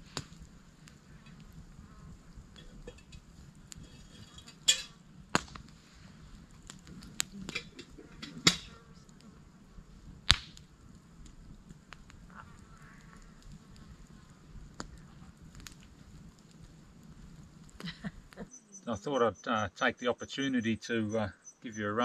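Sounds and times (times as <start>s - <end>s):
sharp pops of fire: 0.0s - 18.5s
campfire crackling: 0.0s - 22.0s.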